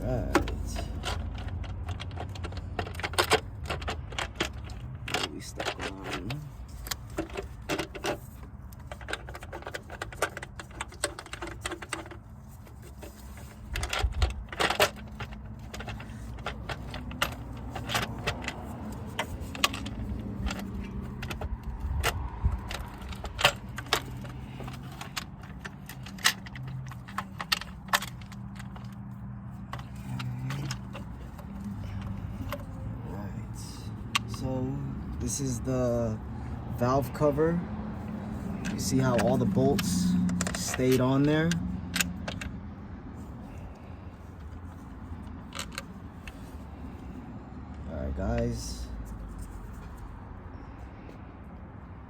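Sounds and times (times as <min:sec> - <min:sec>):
metal tools clicking: 0:00.0 - 0:36.2, 0:36.8 - 0:42.6.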